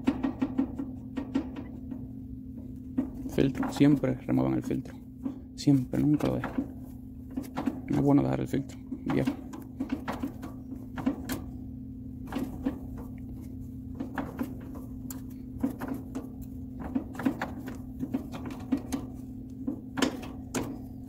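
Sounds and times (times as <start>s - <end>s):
metal clicks and knocks: 0.0s - 21.0s
steady low hum: 0.0s - 21.0s.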